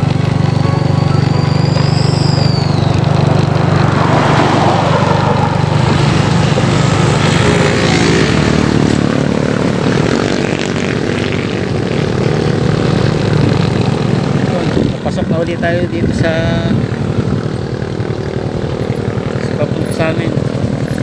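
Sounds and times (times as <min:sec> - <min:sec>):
road and wind noise: 0:00.0 - 0:21.0
vehicle engine droning: 0:00.0 - 0:21.0.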